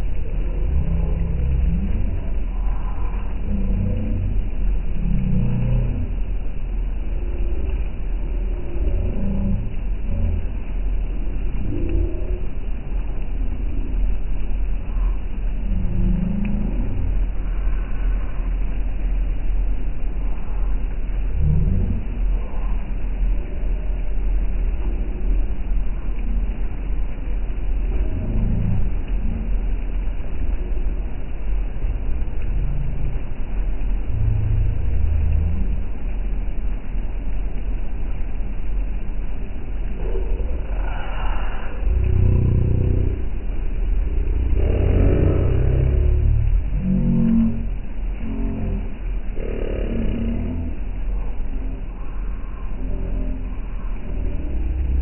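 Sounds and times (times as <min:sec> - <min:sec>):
low engine rumble: 0:00.0 - 0:55.0.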